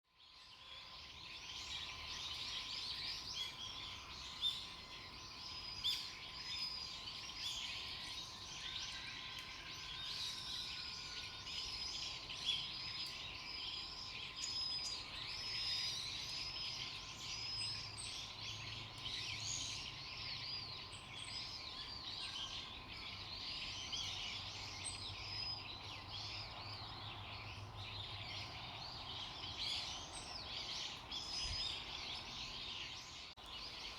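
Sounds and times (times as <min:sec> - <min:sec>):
birds chirping and twittering: 0:00.2 - 0:33.9.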